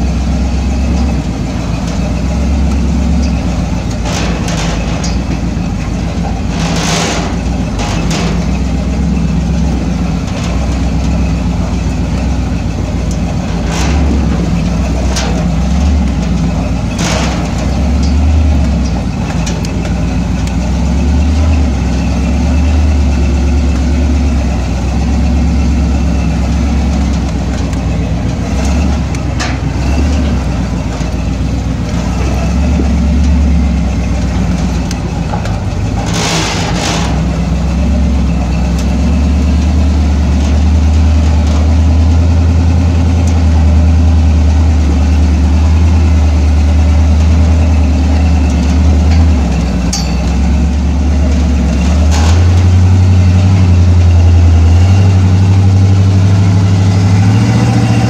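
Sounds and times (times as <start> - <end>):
off-road vehicle engine droning: 0.0 - 58.0.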